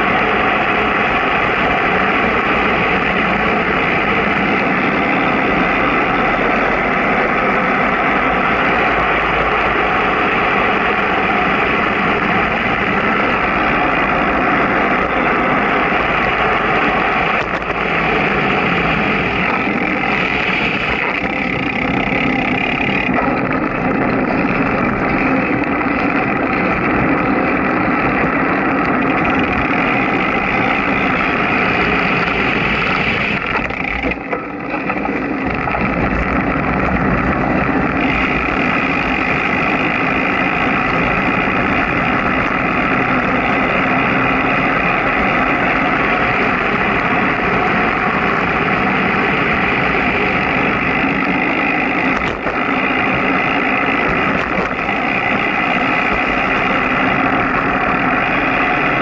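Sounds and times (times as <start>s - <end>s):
road noise: 0.0s - 59.0s
vehicle engine running: 0.0s - 59.0s
wind noise: 0.0s - 59.0s.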